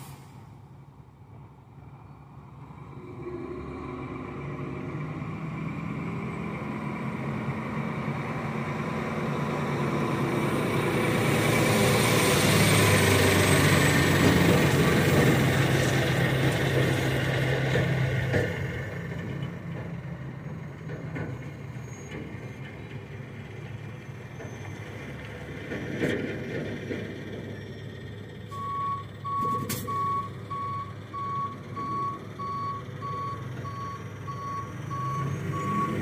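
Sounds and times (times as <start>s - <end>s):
diesel truck engine driving: 0.0s - 36.0s.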